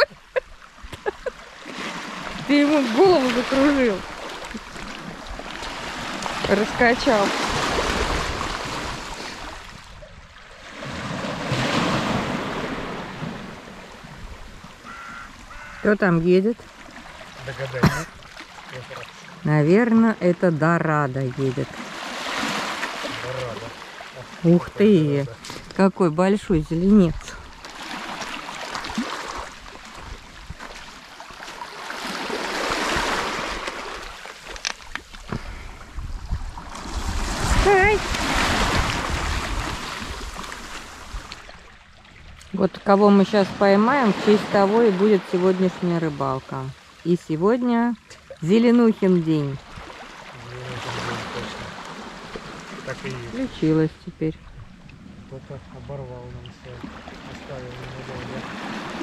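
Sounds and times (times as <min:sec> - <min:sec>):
waves washing over rocks and pebbles: 0:00.0 - 0:15.8, 0:16.5 - 0:47.3, 0:48.4 - 0:53.9, 0:56.0 - 0:59.0.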